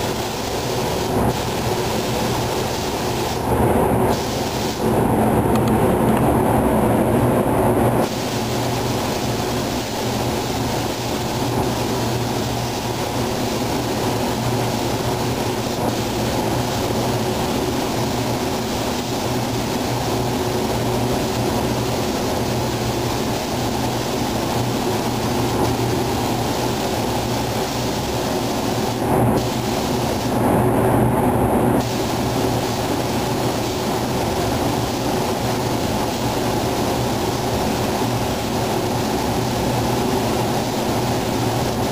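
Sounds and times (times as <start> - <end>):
spray gun hissing: 0.0 - 6.0, 7.9 - 31.0, 31.7 - 41.9
ventilation fans humming: 0.0 - 41.9.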